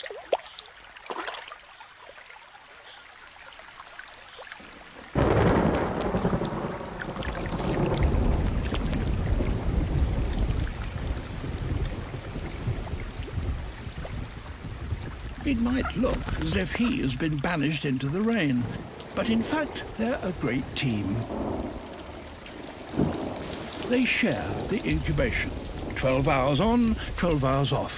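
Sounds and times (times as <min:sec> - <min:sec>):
heavy rain: 0:02.2 - 0:27.9
thunder rumbling: 0:05.2 - 0:27.9.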